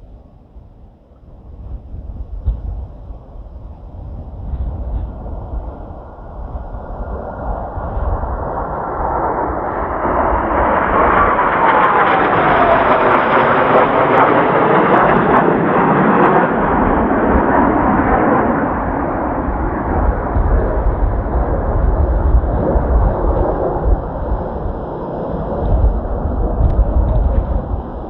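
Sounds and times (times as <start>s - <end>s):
jet engine whine: 0.0s - 28.0s
jet planes roaring past: 0.0s - 28.0s
wind buffeting microphone: 0.0s - 28.0s.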